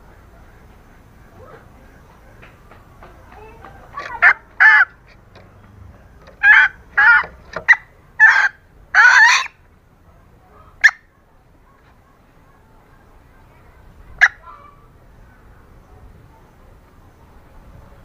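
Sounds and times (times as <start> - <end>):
hen clucking calls: 0.0 - 17.3.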